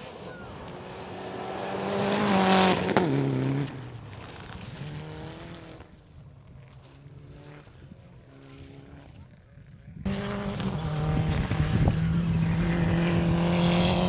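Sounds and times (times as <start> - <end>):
rally car engine at full throttle: 0.0 - 14.0.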